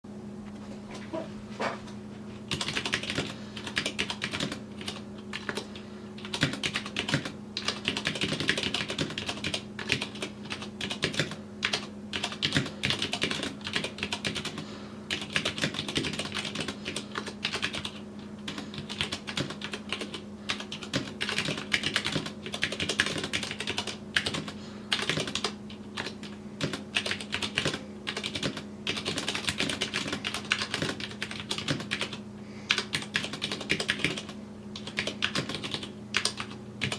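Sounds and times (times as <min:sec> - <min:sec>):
steady low hum: 0:00.1 - 0:36.9
mechanical keyboard typing: 0:02.5 - 0:36.9.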